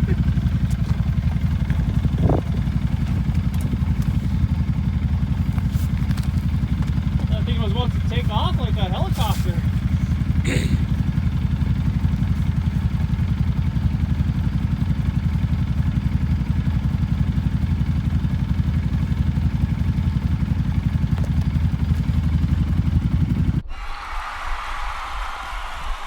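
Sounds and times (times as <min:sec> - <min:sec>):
small engine puttering: 0:00.0 - 0:23.6.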